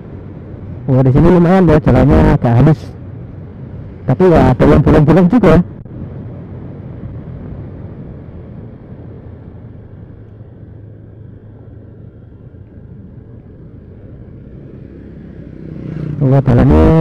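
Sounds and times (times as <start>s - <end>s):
road rumble: 0.0s - 17.0s
wind: 0.0s - 17.0s.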